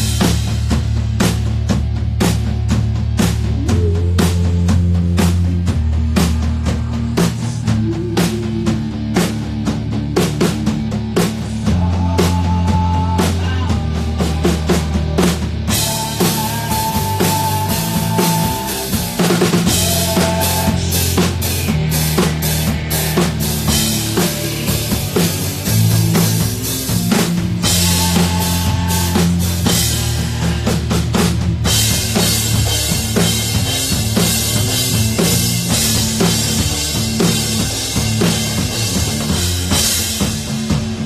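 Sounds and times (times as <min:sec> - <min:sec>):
drum kit beat: 0:00.0 - 0:41.0
rock band playing live: 0:00.0 - 0:41.0
electric guitar: 0:03.2 - 0:41.0.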